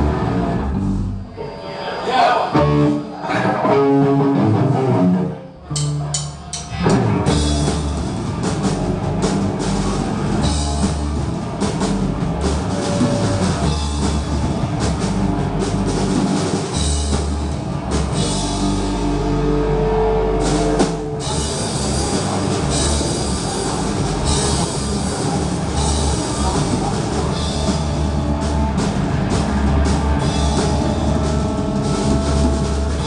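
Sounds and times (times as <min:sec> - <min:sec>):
rock band playing: 0:00.0 - 0:33.0.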